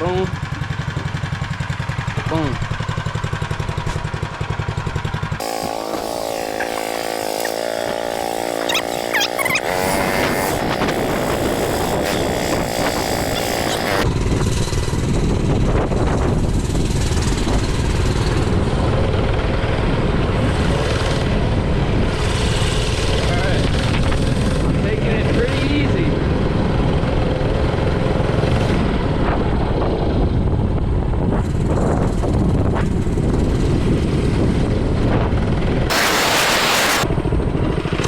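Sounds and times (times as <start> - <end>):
small engine running: 0.0 - 30.6, 31.4 - 38.0.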